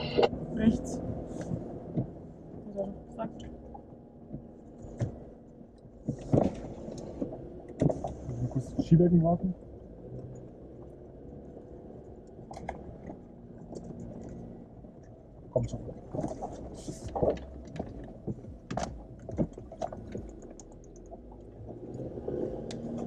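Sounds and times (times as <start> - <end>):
body and suspension rattling: 0.0 - 23.0
engine running low: 0.0 - 23.0.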